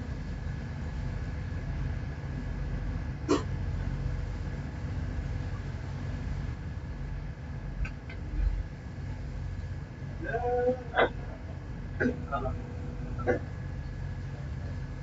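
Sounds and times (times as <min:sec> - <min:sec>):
ship engine droning: 0:00.0 - 0:15.0.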